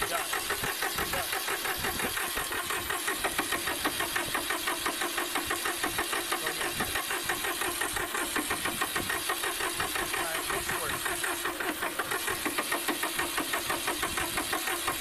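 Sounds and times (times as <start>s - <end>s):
diesel engine cranking: 0.0s - 15.0s.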